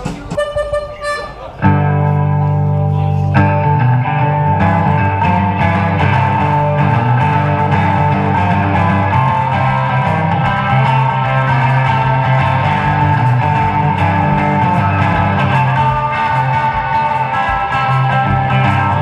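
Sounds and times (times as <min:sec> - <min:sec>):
bass guitar: 0:00.0 - 0:19.0
drums: 0:00.0 - 0:19.0
electric guitar: 0:00.0 - 0:19.0
harmonica: 0:00.3 - 0:19.0.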